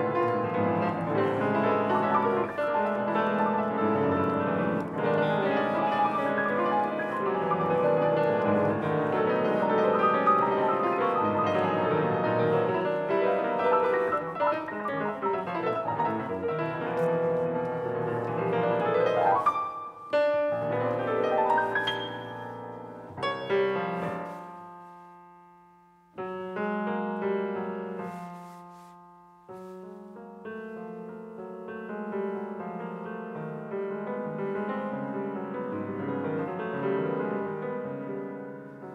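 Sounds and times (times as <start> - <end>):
grand piano playing: 0.0 - 38.9.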